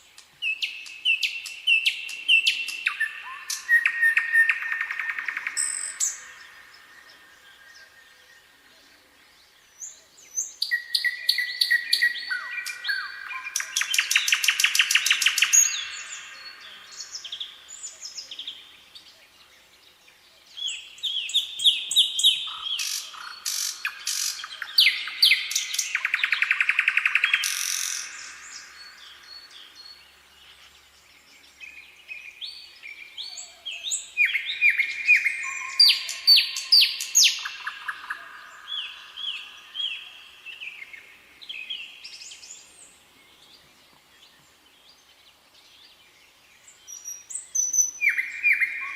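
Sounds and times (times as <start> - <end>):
songbirds singing: 0.0 - 48.9.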